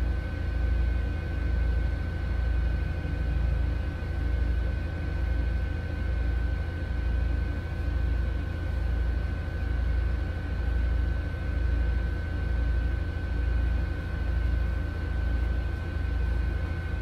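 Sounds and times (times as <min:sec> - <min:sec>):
pulsing low mechanical hum: 0:00.0 - 0:17.0.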